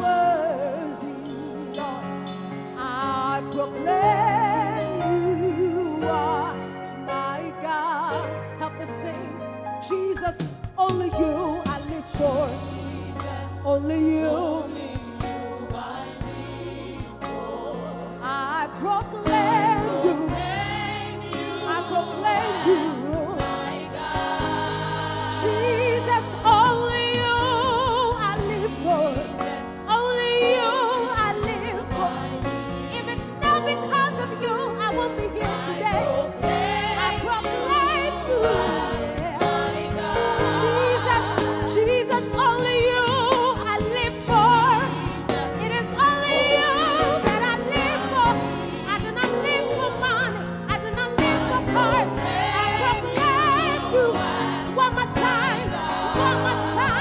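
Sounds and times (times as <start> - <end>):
voices singing gospel: 0.0 - 57.0
band backing with drum beat: 9.1 - 57.0.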